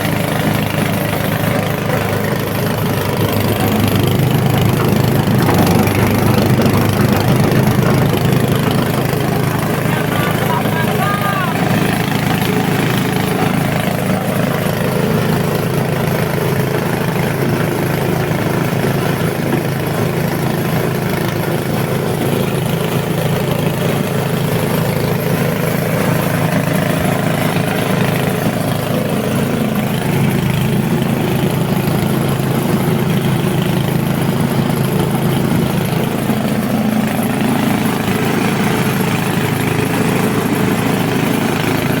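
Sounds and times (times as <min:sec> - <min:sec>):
shredding machine motor hum: 0:00.0 - 0:42.0.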